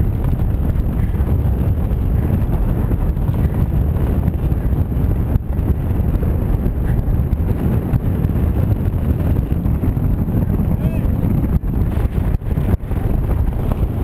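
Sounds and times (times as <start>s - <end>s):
wheels rolling on tarmac: 0.0s - 14.0s
wind buffeting microphone: 0.0s - 14.0s.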